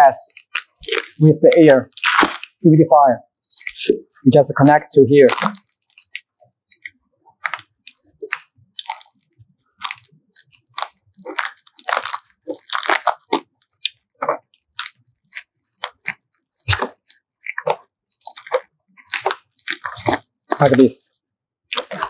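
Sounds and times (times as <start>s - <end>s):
foil duct hose crinkling: 0.2s - 2.6s, 3.4s - 20.8s, 21.7s - 22.0s.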